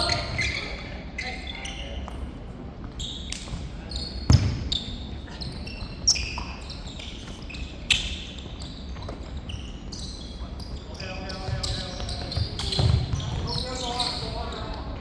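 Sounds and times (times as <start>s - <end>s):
sneakers squeaking on floor: 0.0s - 15.0s.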